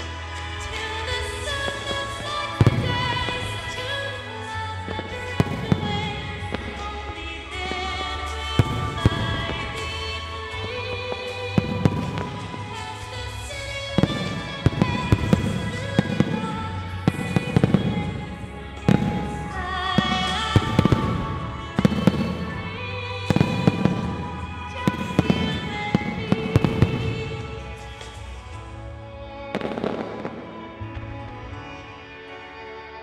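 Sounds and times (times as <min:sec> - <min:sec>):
music with sustained notes: 0:00.0 - 0:33.0
fireworks bursting: 0:00.4 - 0:28.7, 0:29.4 - 0:31.1.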